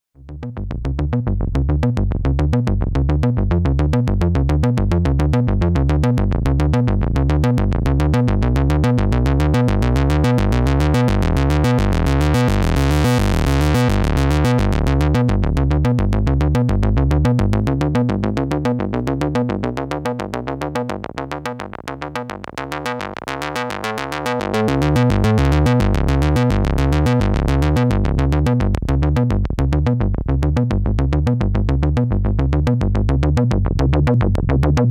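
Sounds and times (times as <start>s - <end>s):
synthesizer sequenced bass line: 0.2s - 34.9s.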